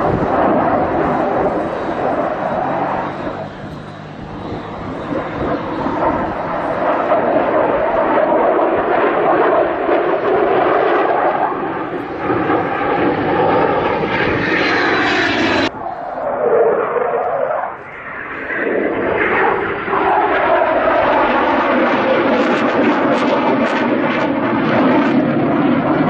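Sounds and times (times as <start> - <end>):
fighter jet engine rushing: 0.0 - 26.0.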